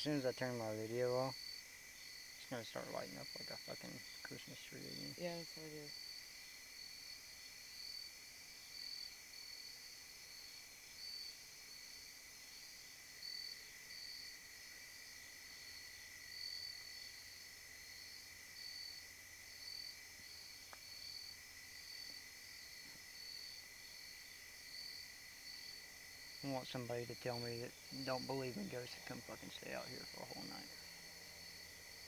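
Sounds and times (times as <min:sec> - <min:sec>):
high steady insect trill: 0:00.0 - 0:32.0
pulsing cricket chirping: 0:00.0 - 0:32.0.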